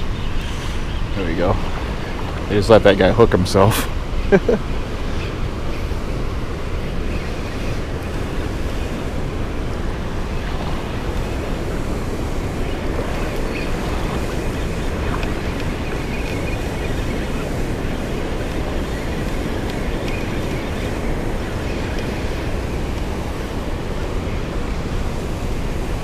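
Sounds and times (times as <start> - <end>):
water rushing through spillway: 0.0 - 26.0.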